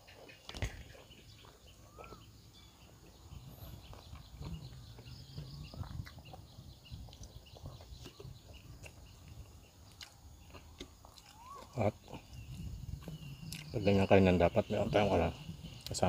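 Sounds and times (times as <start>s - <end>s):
person chewing food: 0.0s - 13.8s
bird chirps: 0.0s - 16.0s.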